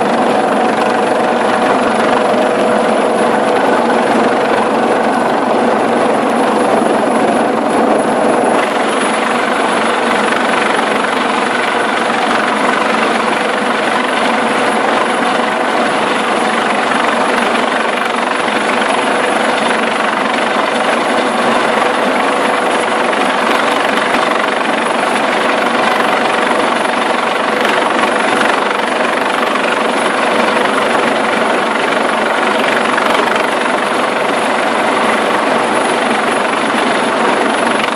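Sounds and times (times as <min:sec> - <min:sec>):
helicopter rotor and turbines: 0:00.0 - 0:37.9
steady hum: 0:00.0 - 0:37.9.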